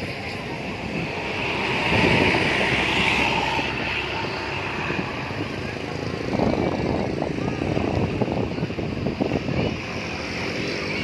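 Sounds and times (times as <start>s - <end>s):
bus passing: 0.0s - 11.0s
voices: 0.0s - 11.0s.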